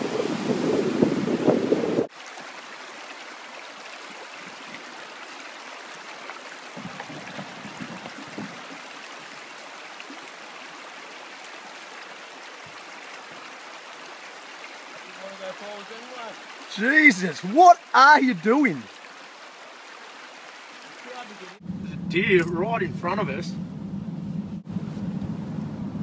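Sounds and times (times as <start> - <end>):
river babbling over stones: 0.0 - 21.6.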